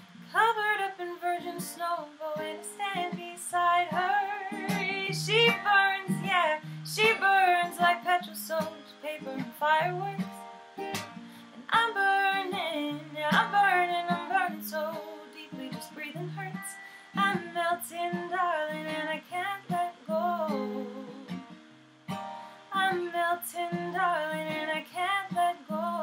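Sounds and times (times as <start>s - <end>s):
acoustic guitar strumming: 0.0s - 26.0s
woman singing: 0.3s - 10.5s, 11.7s - 21.4s, 22.7s - 26.0s.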